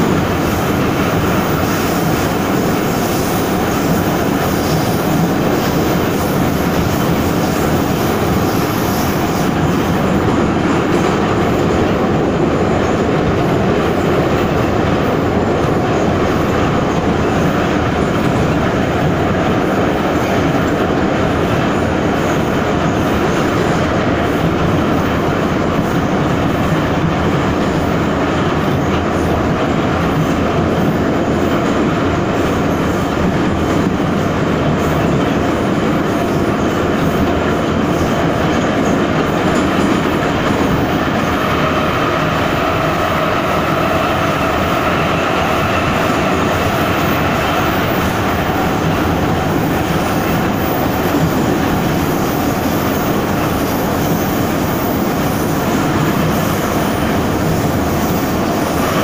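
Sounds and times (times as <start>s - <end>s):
metro car wheels rumbling on rails: 0.0s - 59.0s.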